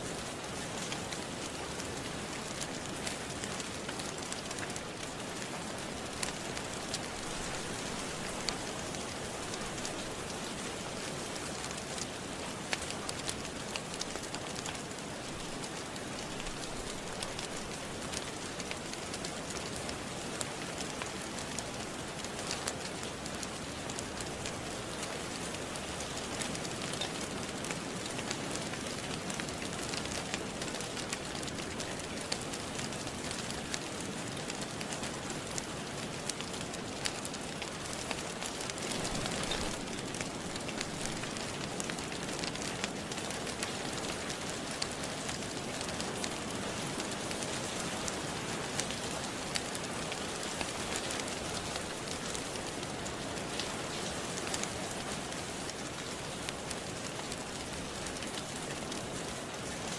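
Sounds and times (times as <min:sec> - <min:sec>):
steady rain falling: 0:00.0 - 0:59.9
fire crackling and popping: 0:00.1 - 0:59.9.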